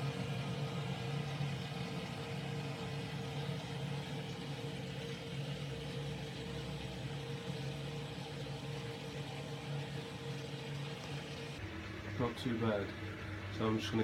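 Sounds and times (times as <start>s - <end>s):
boiler fan humming: 0.0s - 14.0s.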